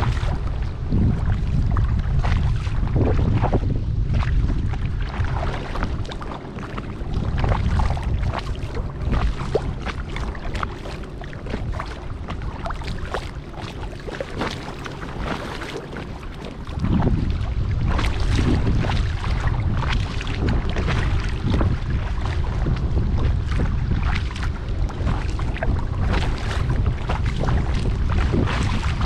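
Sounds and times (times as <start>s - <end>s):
paddle splashing in water: 0.0s - 29.0s
wind rumble on microphone: 0.0s - 29.0s.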